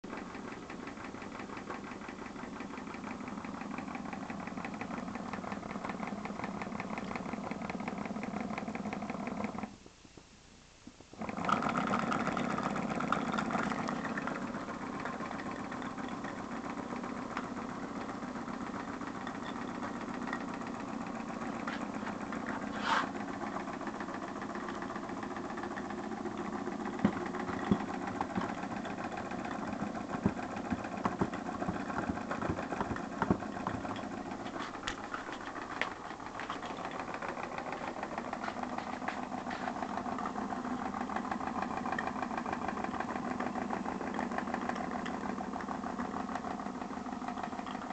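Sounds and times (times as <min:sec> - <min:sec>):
model steam engine running: 0:00.0 - 0:09.8, 0:11.2 - 0:47.9.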